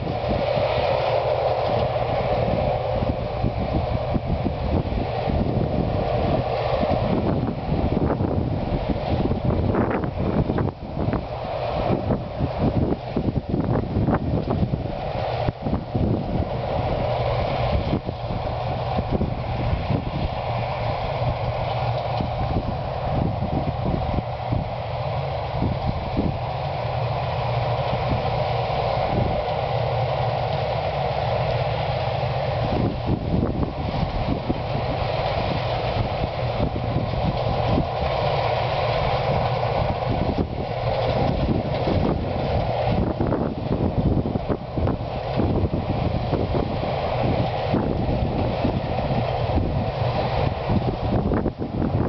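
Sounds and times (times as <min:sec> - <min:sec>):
combine harvester droning: 0:00.0 - 0:52.0
low hum: 0:00.0 - 0:52.0
wind buffeting microphone: 0:00.0 - 0:52.0.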